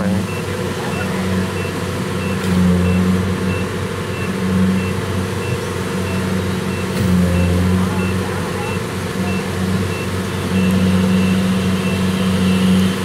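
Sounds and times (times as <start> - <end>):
short high warning beeps: 0.0 - 12.8
combine harvester diesel engines: 0.0 - 13.0.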